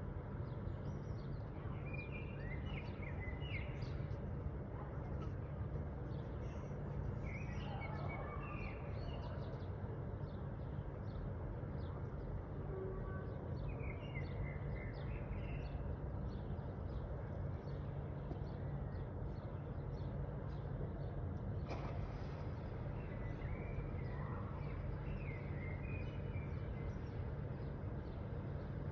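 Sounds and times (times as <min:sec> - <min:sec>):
low background rumble: 0:00.0 - 0:28.9.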